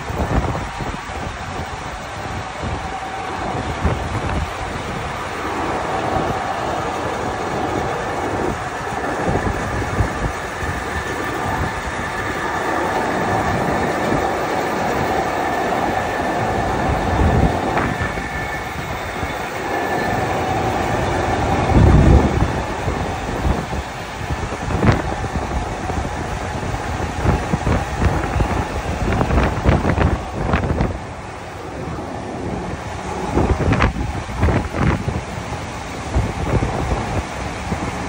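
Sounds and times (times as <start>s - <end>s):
faint machinery whine: 0.0s - 38.0s
machinery rattling rumble: 0.0s - 38.0s.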